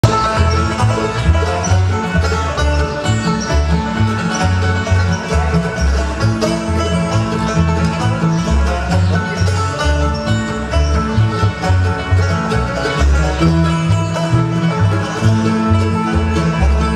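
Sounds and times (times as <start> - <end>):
bluegrass band playing: 0.0 - 16.9
upright bass plucking: 0.0 - 16.9.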